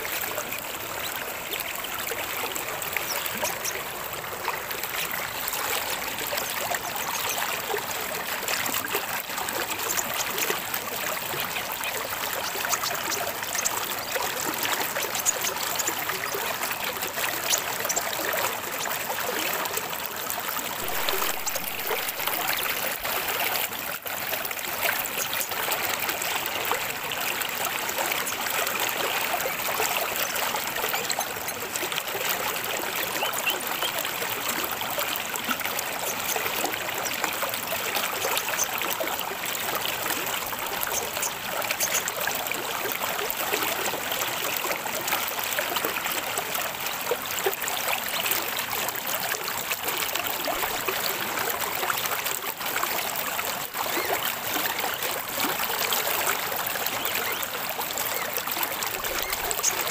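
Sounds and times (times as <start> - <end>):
trickling water: 0.0 - 59.9.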